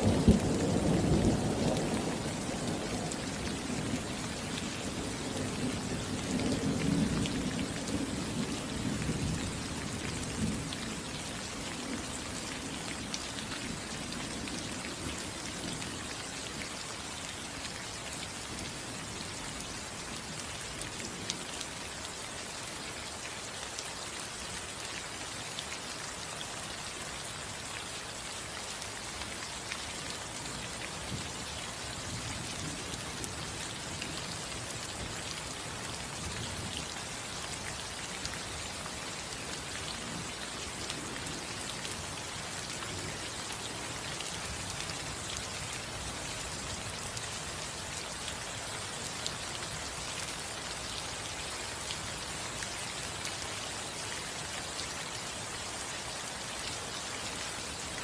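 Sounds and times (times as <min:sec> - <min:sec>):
rain falling on a roof: 0:00.0 - 0:58.0.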